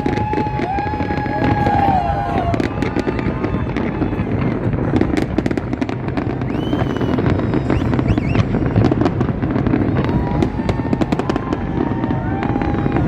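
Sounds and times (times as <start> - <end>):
fireworks cracking and popping: 0.0 - 13.0
whistling firework glides: 0.0 - 13.0.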